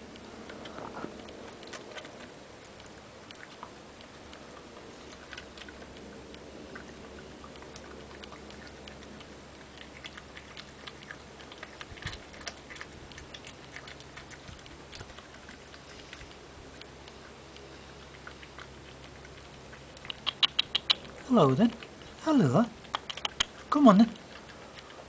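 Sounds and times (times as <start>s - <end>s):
badger chewing and licking: 0.0s - 25.0s.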